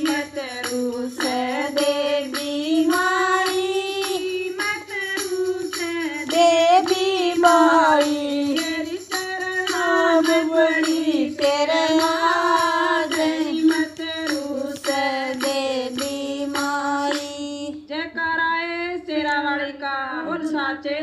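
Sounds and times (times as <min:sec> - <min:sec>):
steady percussion beat: 0:00.0 - 0:17.5
person singing devotional song: 0:00.0 - 0:21.0.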